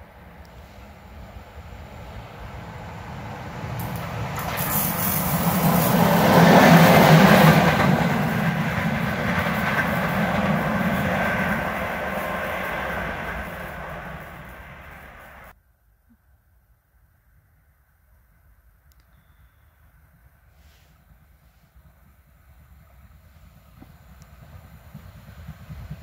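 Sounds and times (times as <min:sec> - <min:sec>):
train passing on track: 0:00.0 - 0:15.6, 0:19.7 - 0:26.0.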